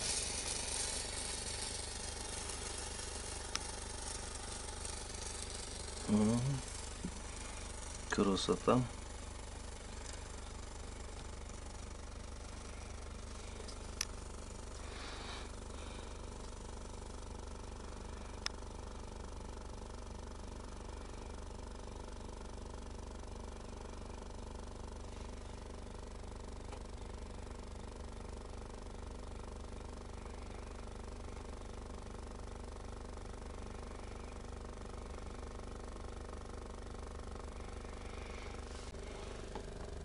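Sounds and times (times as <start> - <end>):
vacuum pump motor humming: 0.0 - 40.0.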